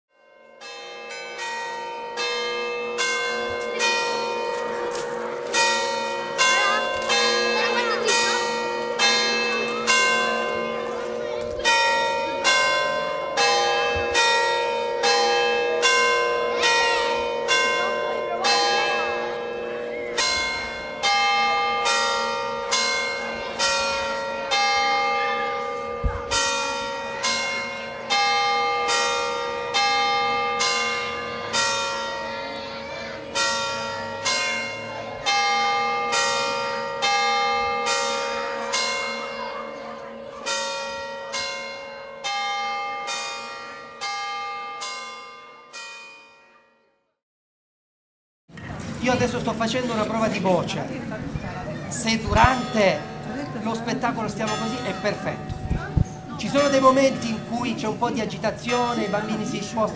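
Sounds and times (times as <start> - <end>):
church bells ringing a peal: 0.1 - 47.0, 48.9 - 59.9.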